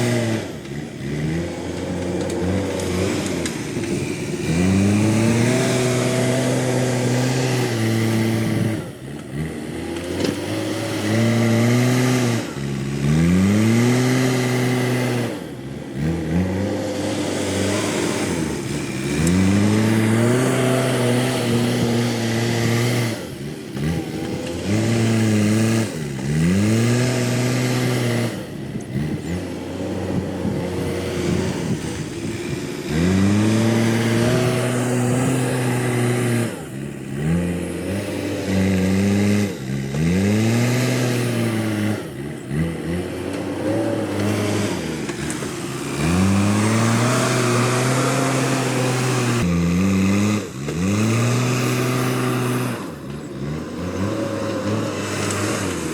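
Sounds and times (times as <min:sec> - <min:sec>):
diesel engine revving under load: 0:00.0 - 0:55.9.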